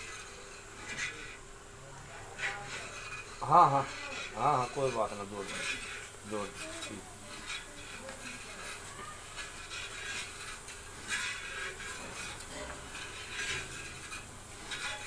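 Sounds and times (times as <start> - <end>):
stirrer scraping metal pan: 0.0 - 15.0.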